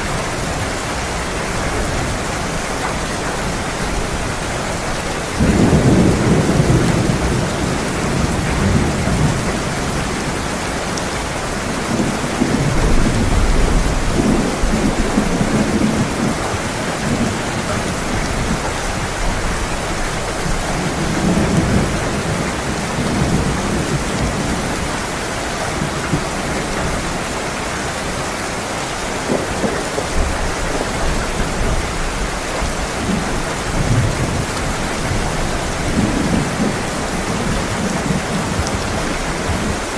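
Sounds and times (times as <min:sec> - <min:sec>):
heavy rain pouring: 0:00.0 - 0:39.9
thunder rumbling: 0:00.2 - 0:25.1, 0:28.9 - 0:39.9.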